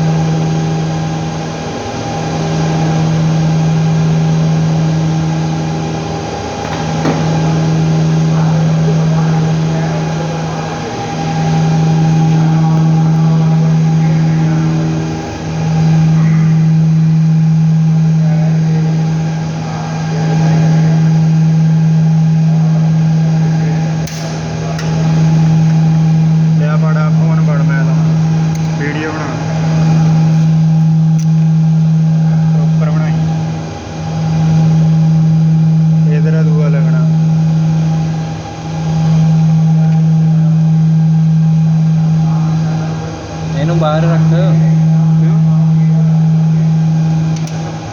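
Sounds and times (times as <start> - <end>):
machine humming: 0.0 - 47.9.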